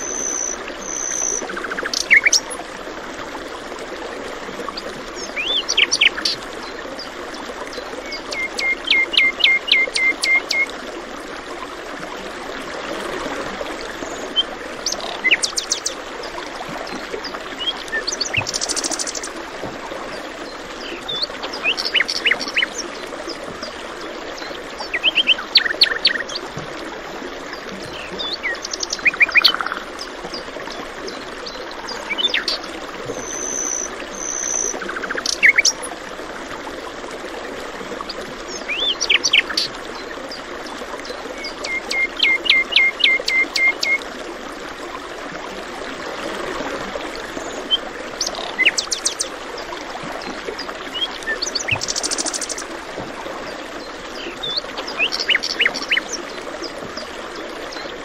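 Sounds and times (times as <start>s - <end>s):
flowing stream rushing: 0.0s - 58.0s.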